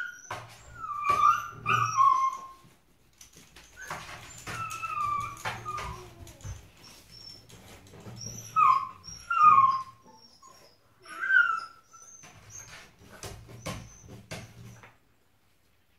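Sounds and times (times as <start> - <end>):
puppy whimpering: 0.0 - 2.7, 3.7 - 14.8.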